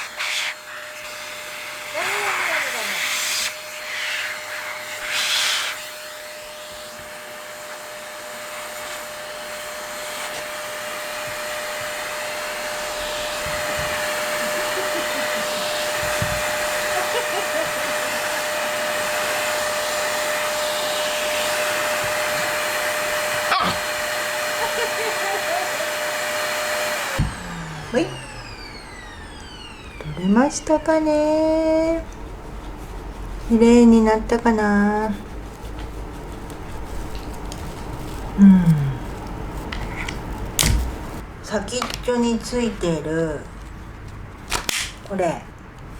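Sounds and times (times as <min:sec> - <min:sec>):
vacuum cleaner running: 0:00.0 - 0:42.6.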